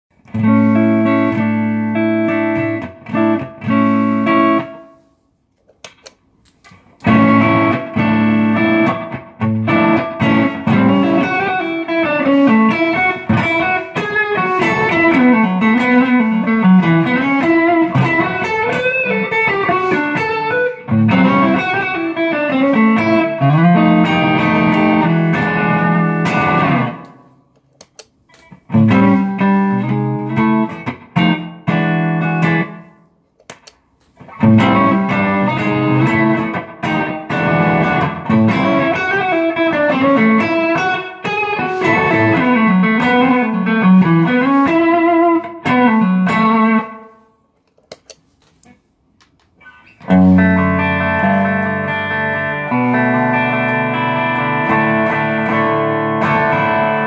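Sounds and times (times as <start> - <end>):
overdriven electric guitar: 0.1 - 5.1, 6.9 - 47.3, 48.6 - 57.0.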